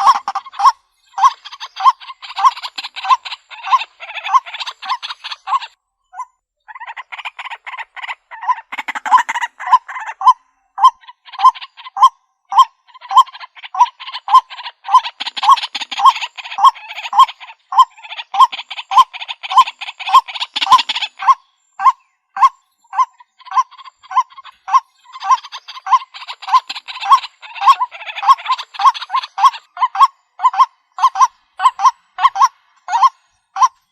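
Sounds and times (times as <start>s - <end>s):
waterhen kwak calls: 0.0s - 5.8s, 6.7s - 33.9s.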